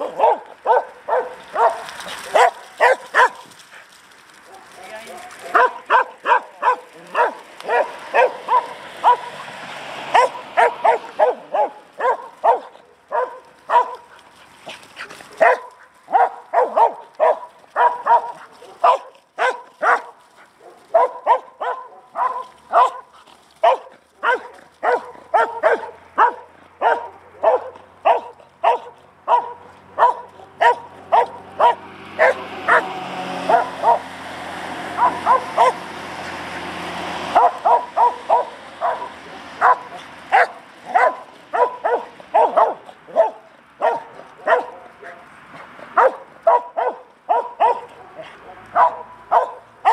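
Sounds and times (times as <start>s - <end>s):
dog barking: 0.0s - 3.5s, 4.5s - 9.4s, 10.1s - 14.1s, 15.4s - 34.1s, 35.0s - 35.8s, 37.3s - 44.9s, 45.9s - 49.9s.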